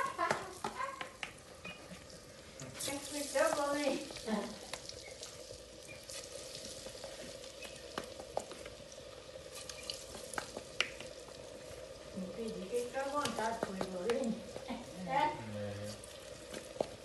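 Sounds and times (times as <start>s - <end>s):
hot oil sizzling: 0.0s - 17.0s.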